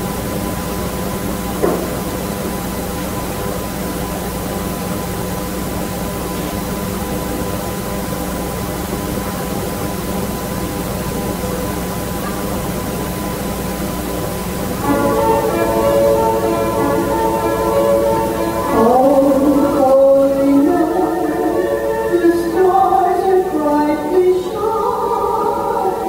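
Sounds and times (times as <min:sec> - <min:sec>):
steady background hum and hiss: 0:00.0 - 0:26.0.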